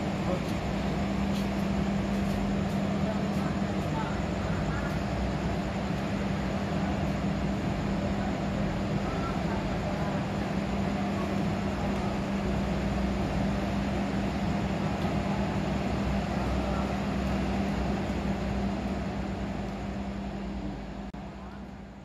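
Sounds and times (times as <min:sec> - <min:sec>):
train wheels rumbling on rails: 0:00.0 - 0:21.3
steady low hum: 0:00.0 - 0:22.0.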